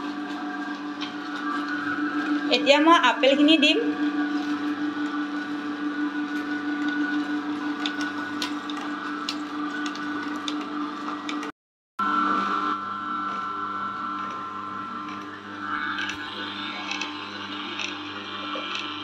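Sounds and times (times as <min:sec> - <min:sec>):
juicer motor humming: 0:00.0 - 0:19.0.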